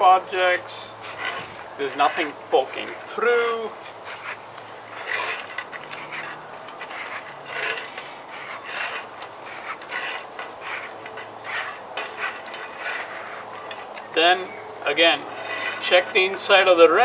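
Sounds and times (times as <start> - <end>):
finger scratching inside tire: 0.2 - 14.3, 14.9 - 16.5.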